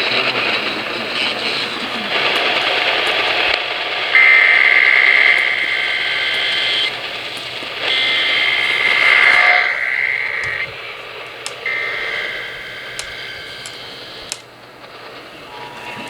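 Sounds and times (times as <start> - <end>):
buzzy two-tone data bursts: 0.0 - 16.0
radio hiss: 0.0 - 16.0.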